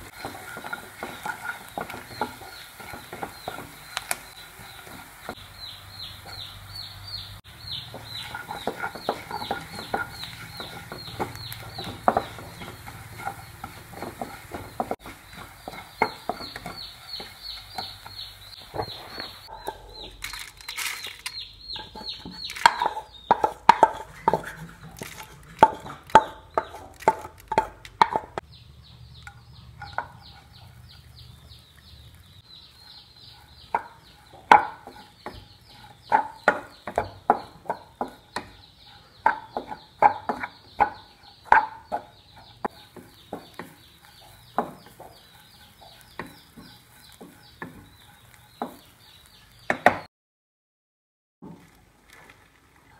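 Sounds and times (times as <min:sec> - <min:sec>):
wooden spatula scraping a pan: 0:00.0 - 0:05.4, 0:07.6 - 0:28.4, 0:29.3 - 0:31.4, 0:32.1 - 0:49.5.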